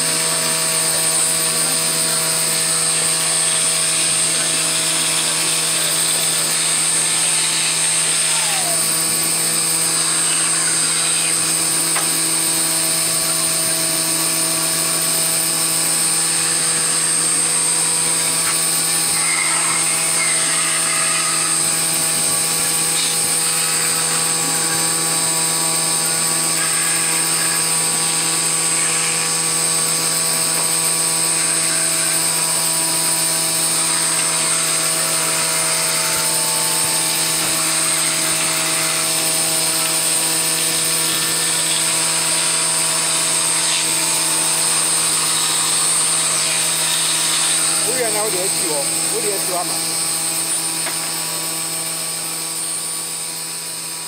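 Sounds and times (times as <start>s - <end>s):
bandsaw cutting wood: 0.0s - 54.0s.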